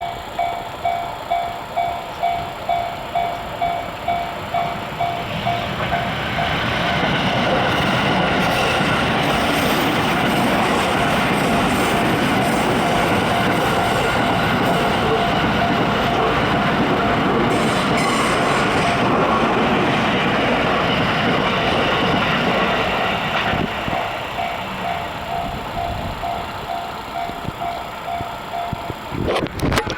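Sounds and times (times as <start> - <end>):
crossing warning bell ringing: 0.0 - 29.9
train wheels rumbling on rails: 0.0 - 29.9.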